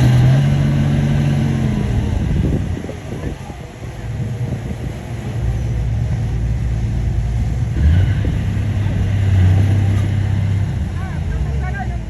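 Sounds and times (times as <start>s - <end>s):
bulldozer diesel engine revving: 0.0s - 12.0s.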